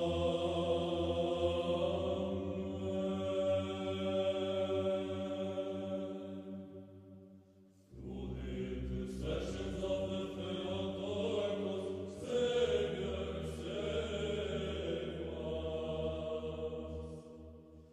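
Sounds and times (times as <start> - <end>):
sung church chant: 0.0 - 17.9.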